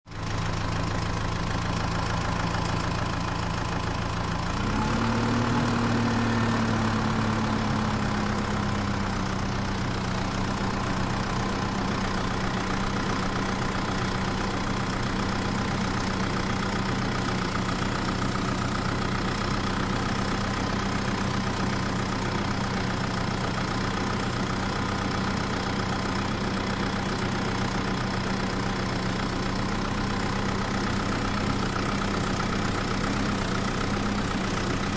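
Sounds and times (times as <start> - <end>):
vehicle engine idling and revving: 0.0 - 34.9.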